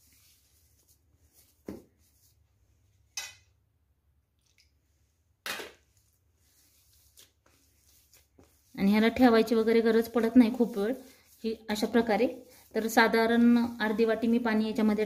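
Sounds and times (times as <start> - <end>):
hands rustling dough: 0.0 - 3.0, 4.9 - 15.0.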